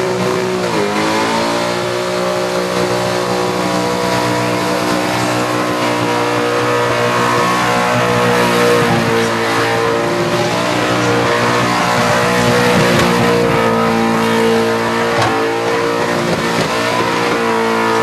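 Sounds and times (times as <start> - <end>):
car engine revving high: 0.0 - 18.0.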